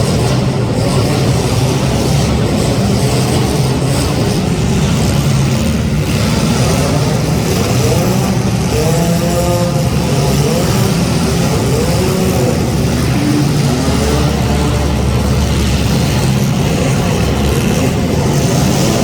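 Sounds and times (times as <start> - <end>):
car engines revving: 0.0 - 19.0
steady low drone: 0.0 - 19.0.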